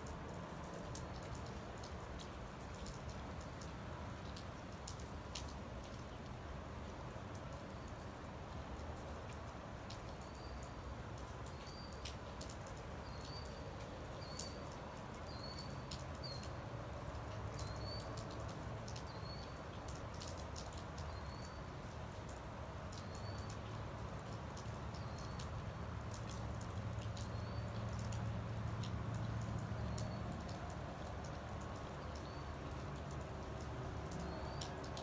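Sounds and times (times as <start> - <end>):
sharp drip clicks: 0.0 - 35.0
steady rain: 0.0 - 35.0.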